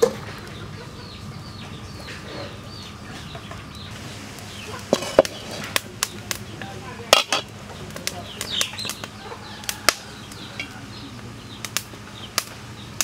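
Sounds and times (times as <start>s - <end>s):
chickens clucking and peeping: 0.0s - 13.0s.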